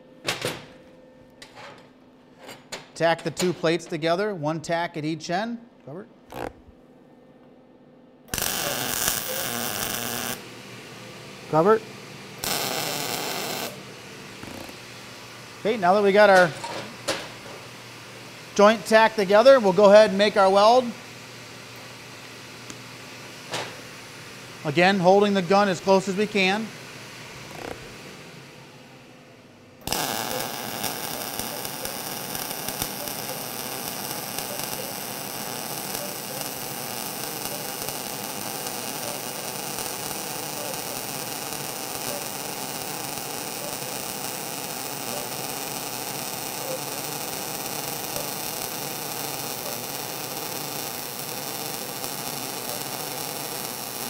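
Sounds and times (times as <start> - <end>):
welding arc crackling hiss: 8.3 - 28.8, 29.8 - 54.0.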